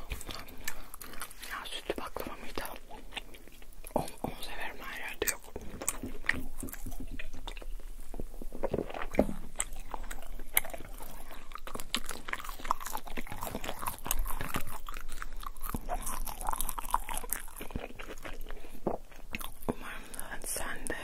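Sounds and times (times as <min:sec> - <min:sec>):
chewing and crunching food: 0:00.0 - 0:21.0
wet mouth sounds: 0:00.0 - 0:21.0.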